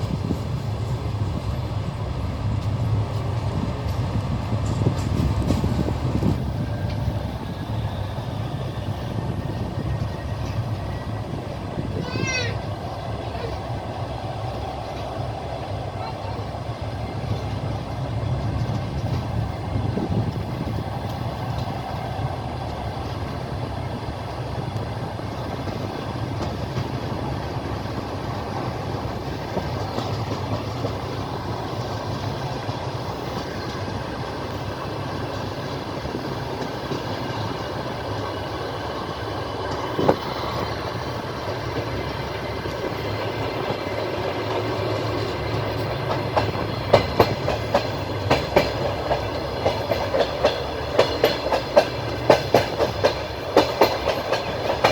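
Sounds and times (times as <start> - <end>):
train wheels rumbling: 0.0 - 54.9
wheels clacking over rail joints: 0.0 - 54.9.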